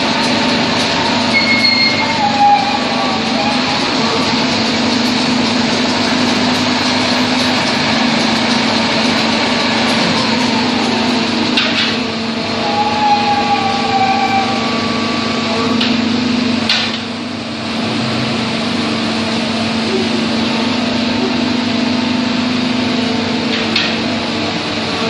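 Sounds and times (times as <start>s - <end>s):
drilling rig mechanical hum: 0.0s - 25.0s.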